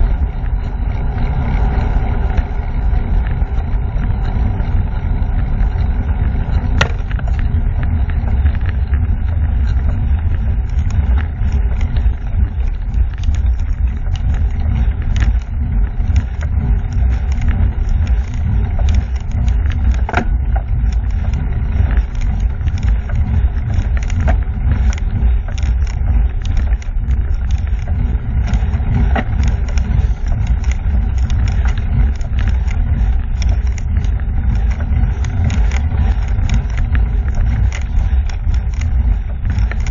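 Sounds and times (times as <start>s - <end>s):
small clicks and rattles: 0.0s - 39.9s
wind buffeting microphone: 0.0s - 39.9s.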